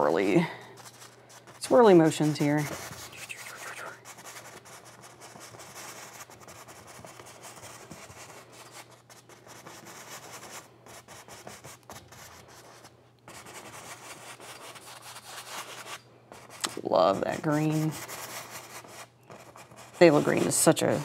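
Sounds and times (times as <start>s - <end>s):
paintbrush scrubbing on canvas: 0.0s - 10.6s, 13.3s - 21.0s.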